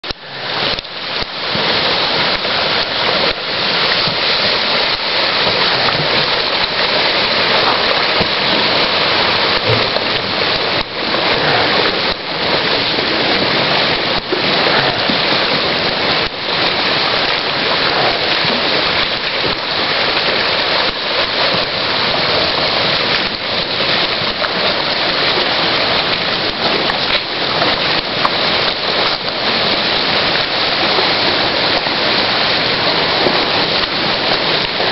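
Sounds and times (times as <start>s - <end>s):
flooded creek rushing: 0.0s - 34.9s.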